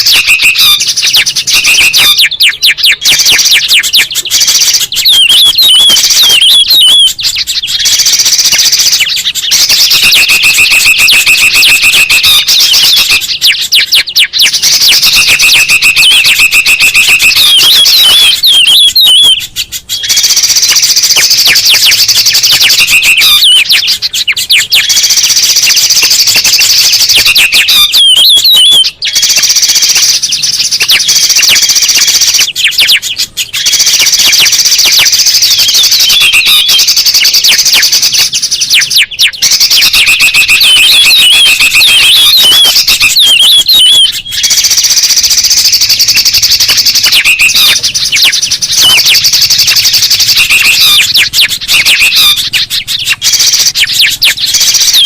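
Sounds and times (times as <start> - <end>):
buzzing bird trill: 0.0 - 55.0
songbirds calling: 0.0 - 55.0.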